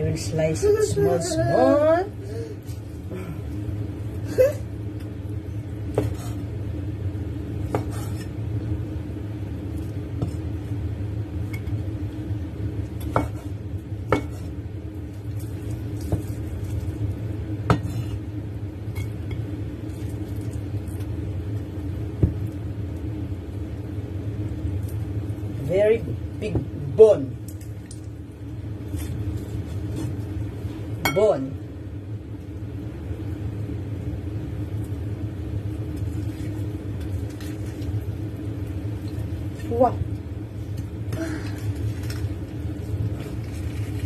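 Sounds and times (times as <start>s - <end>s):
low hum: 0.0s - 44.0s.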